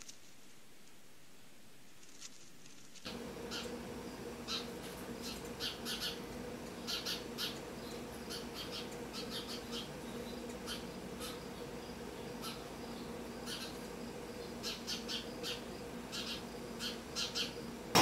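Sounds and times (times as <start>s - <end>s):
steady low hum: 0.3s - 18.0s
small birds chirping: 3.1s - 17.8s.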